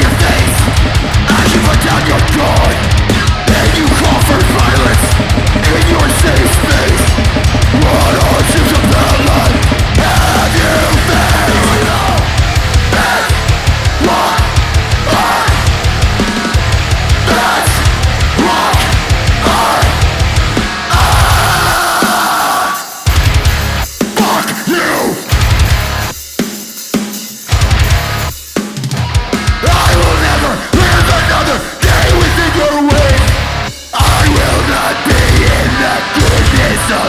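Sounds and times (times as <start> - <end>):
heavy music with drums: 0.0 - 37.0.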